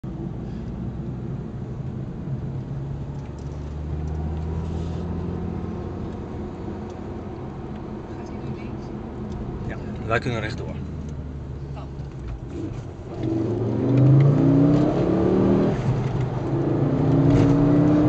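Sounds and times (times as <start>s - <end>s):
car engine droning: 0.0s - 18.0s.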